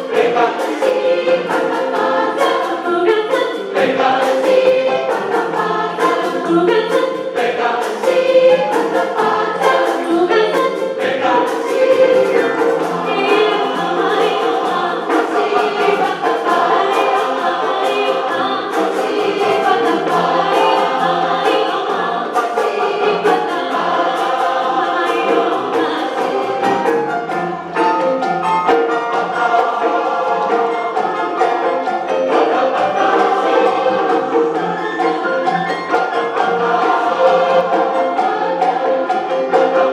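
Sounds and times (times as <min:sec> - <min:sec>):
large choir singing: 0:00.0 - 0:39.9
percussion steady beat: 0:00.0 - 0:39.9.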